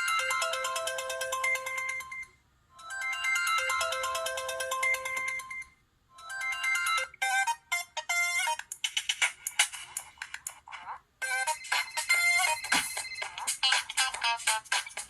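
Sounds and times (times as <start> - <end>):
electronic ringtone melody: 0.0 - 8.6, 11.2 - 15.0
choppy ringtone tune: 0.0 - 9.3, 11.2 - 15.0.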